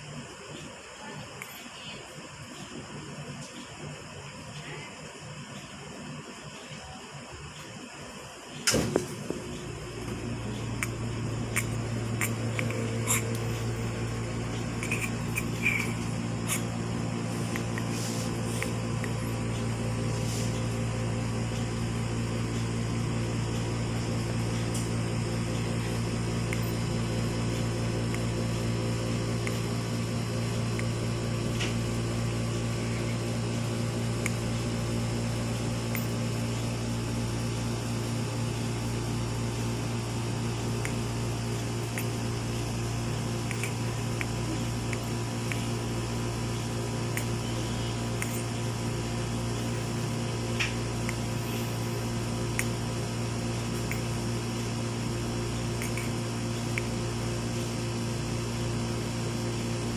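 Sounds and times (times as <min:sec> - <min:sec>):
fan humming: 0:00.0 - 0:59.9.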